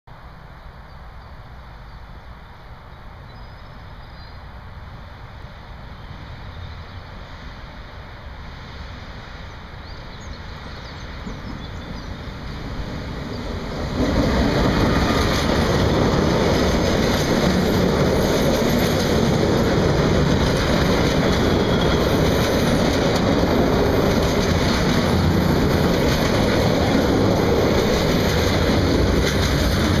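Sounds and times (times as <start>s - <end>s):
freight train passing: 0.1s - 30.0s.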